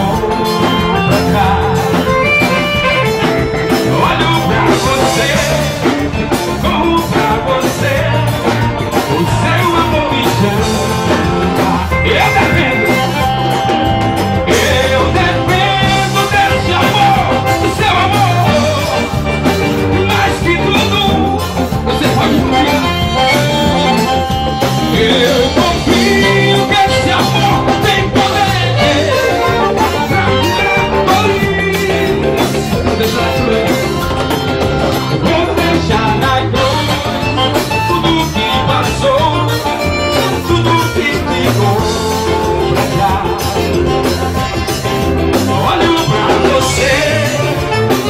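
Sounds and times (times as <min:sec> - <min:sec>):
accordion: 0:00.0 - 0:48.0
bass guitar: 0:00.0 - 0:48.0
drum kit beat: 0:00.0 - 0:48.0
electric guitar: 0:00.0 - 0:48.0.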